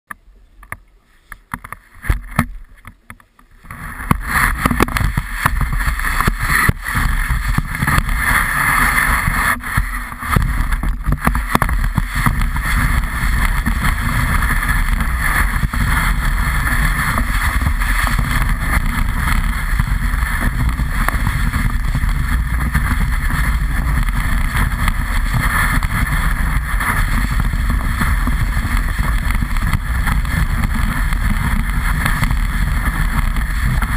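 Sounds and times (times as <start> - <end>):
wind rumble on microphone: 1.5 - 33.9
snowboard scraping over snow: 3.6 - 33.9.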